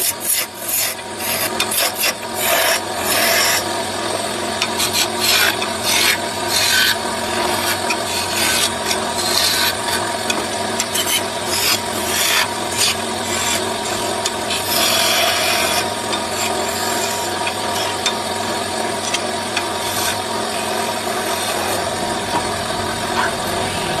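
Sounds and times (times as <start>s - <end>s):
rasp scraping wood: 0.0s - 24.0s.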